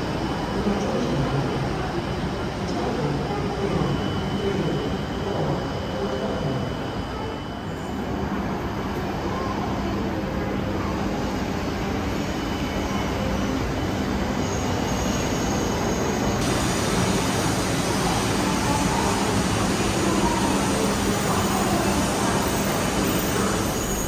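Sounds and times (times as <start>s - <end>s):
train motors and wheels humming: 0.0s - 24.0s.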